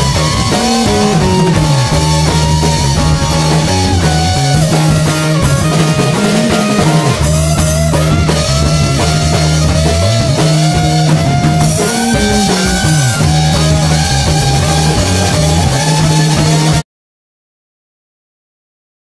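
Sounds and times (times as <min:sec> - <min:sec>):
rock music with drums and guitar: 0:00.0 - 0:16.8.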